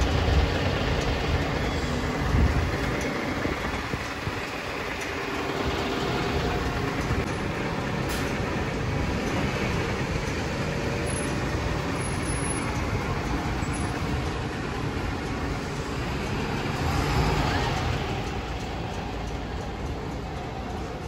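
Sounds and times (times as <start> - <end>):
heavy vehicle rumbling: 0.0 - 21.0.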